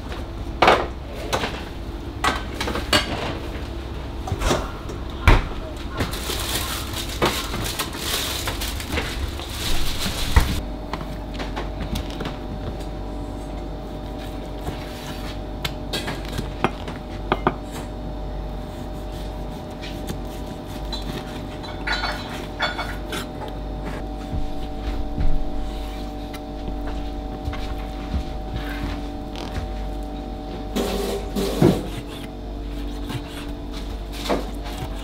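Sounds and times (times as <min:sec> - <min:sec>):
kitchen equipment hum: 0:00.0 - 0:35.0.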